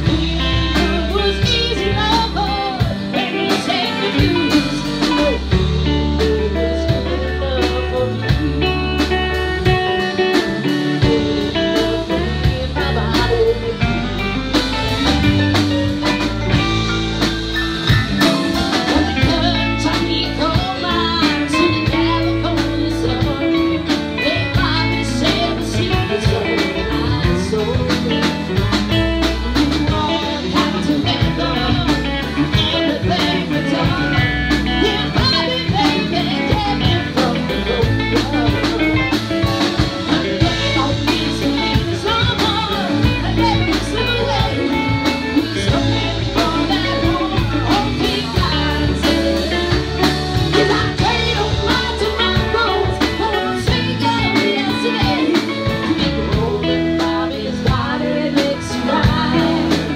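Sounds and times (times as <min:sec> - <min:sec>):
drum kit: 0:00.0 - 0:59.9
electric bass: 0:00.0 - 0:59.9
electric guitars: 0:00.0 - 0:59.9
woman singing: 0:00.0 - 0:59.9.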